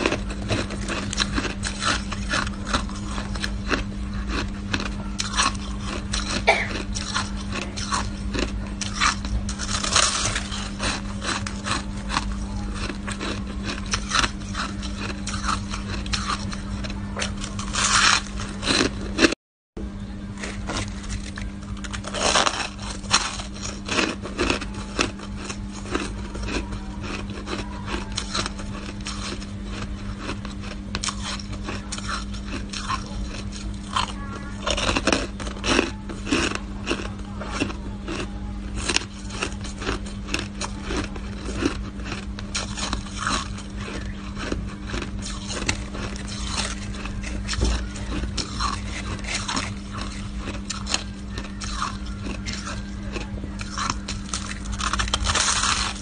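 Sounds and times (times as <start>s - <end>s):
shaved ice crunching: 0.0s - 19.3s, 20.4s - 56.0s
low hum: 0.0s - 56.0s.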